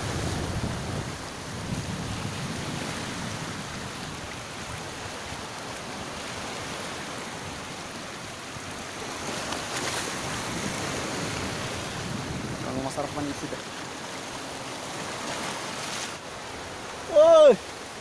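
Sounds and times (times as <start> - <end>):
sea waves washing over rocks: 0.0 - 18.0.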